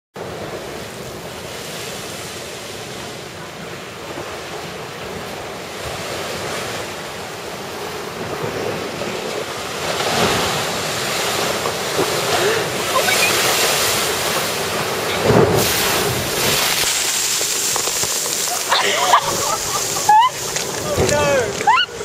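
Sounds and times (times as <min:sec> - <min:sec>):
surf breaking against seawall: 0:00.2 - 0:22.0.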